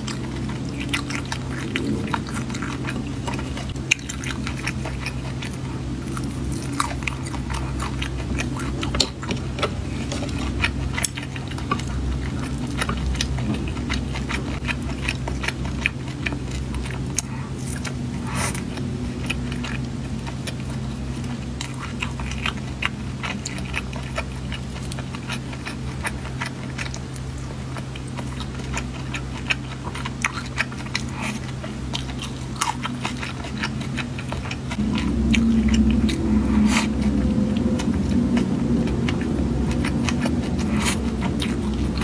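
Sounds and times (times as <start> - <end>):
chewing and mouth smacks: 0.0 - 42.0
steady low hum: 0.0 - 42.0.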